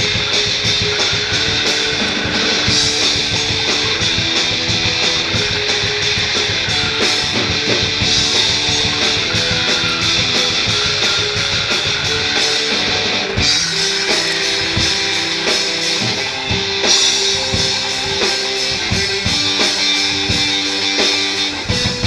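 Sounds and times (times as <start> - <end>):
rock music: 0.0 - 22.0.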